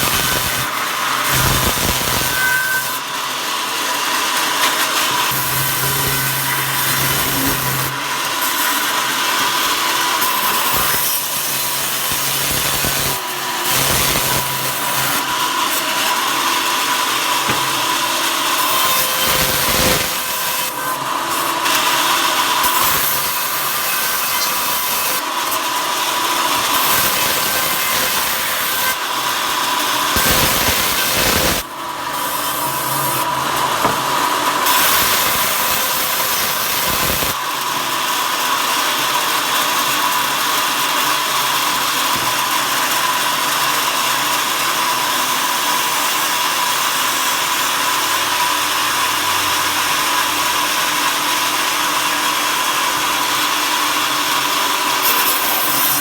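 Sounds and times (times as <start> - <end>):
power saw cutting wood: 0.0 - 56.0.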